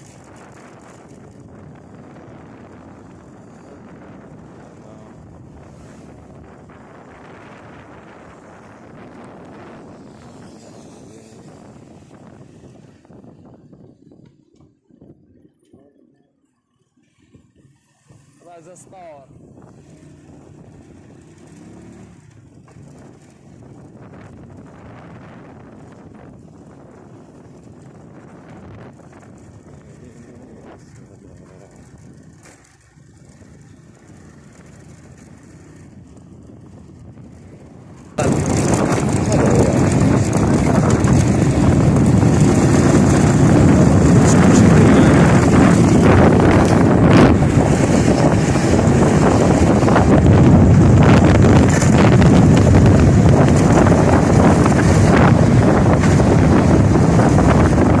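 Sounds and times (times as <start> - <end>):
wind buffeting microphone: 0.0 - 16.2, 17.2 - 58.0
road traffic hum: 0.0 - 58.0.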